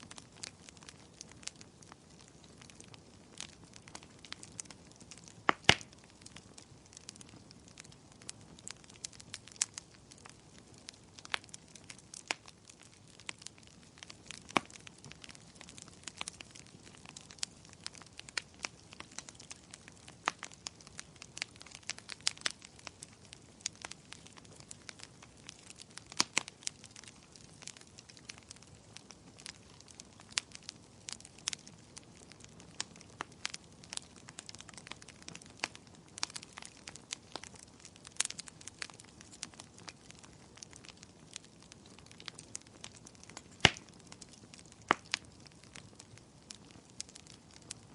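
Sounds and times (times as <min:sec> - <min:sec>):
firewood crackling and popping: 0:00.0 - 0:47.9
low steady hiss: 0:00.0 - 0:47.9.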